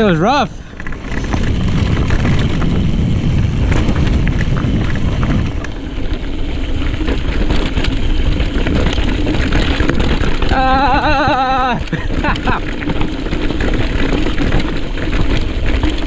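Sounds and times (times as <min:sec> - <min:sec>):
bike parts rattling and knocking: 0:00.0 - 0:16.0
wind buffeting microphone: 0:00.0 - 0:16.0.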